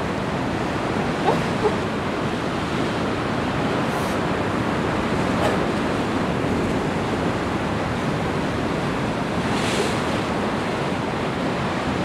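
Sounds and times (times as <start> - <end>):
waves breaking on rocky shore: 0.0 - 12.0.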